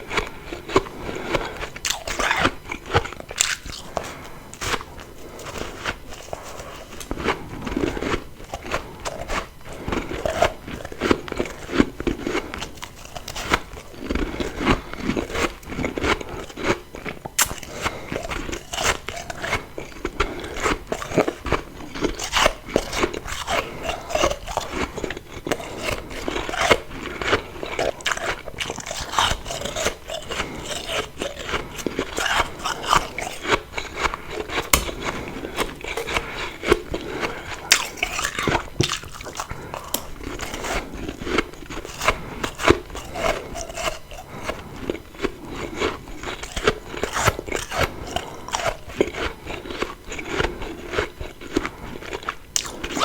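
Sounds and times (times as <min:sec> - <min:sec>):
crunching frost while chewing: 0:00.0 - 0:53.0.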